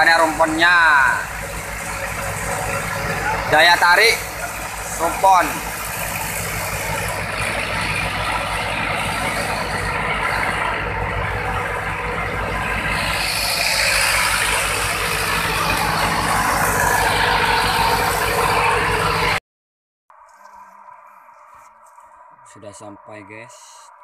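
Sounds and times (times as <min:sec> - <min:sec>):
boat engine droning: 0:00.0 - 0:19.4, 0:20.1 - 0:24.0
water rushing: 0:00.0 - 0:19.4
wind: 0:00.0 - 0:19.4, 0:20.1 - 0:24.0.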